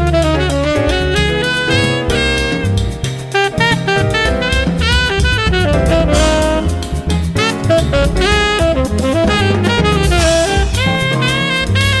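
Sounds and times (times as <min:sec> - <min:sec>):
bass line: 0:00.0 - 0:12.0
drum kit: 0:00.0 - 0:12.0
saxophone lead: 0:00.0 - 0:12.0.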